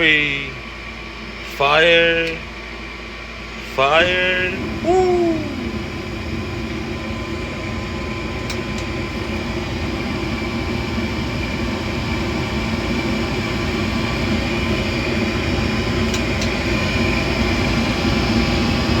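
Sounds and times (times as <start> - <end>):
gas furnace burners and fan rumbling: 0.0 - 19.0.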